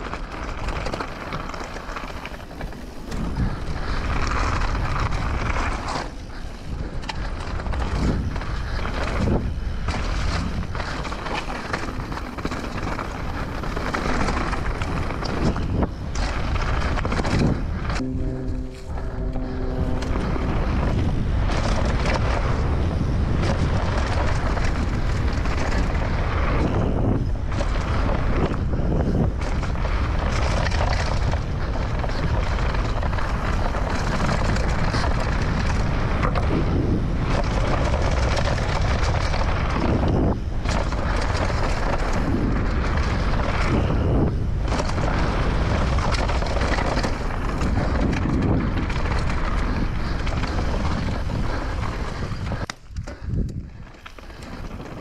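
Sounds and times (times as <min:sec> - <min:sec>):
bike tyres rumbling and rattling: 0:00.0 - 0:55.0
wind on microphone: 0:00.0 - 0:55.0.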